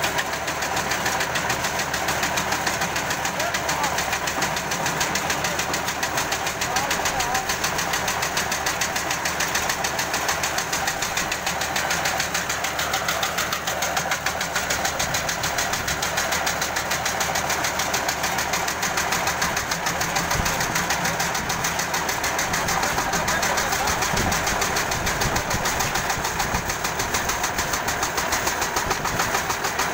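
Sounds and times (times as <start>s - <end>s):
paver engine knocking: 0.0s - 29.9s.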